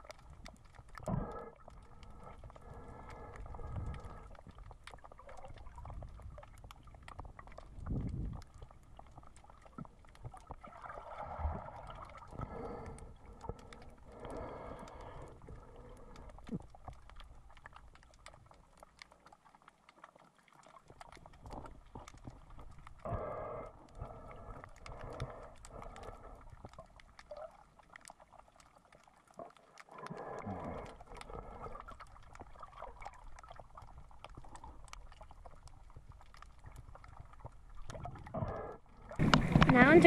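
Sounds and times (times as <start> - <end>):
small crackling clicks: 0.0 - 40.0
underwater rumble and sloshing: 0.0 - 40.0.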